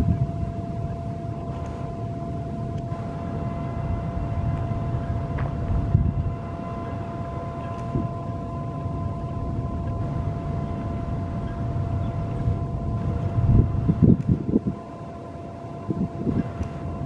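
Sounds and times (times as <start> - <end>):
faint steady hum: 0.0 - 17.0
low rumble: 0.0 - 17.0.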